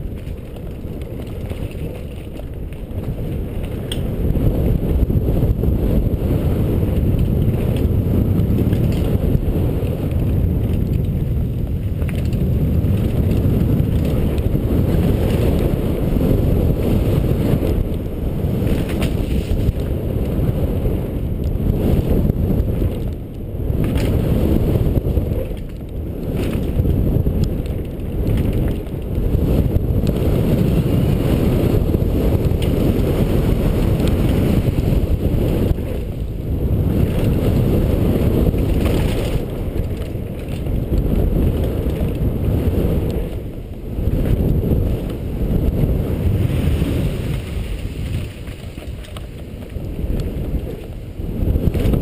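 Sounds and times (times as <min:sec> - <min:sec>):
bike rattling over rough ground: 0:00.0 - 0:52.0
wind buffeting microphone: 0:00.0 - 0:52.0.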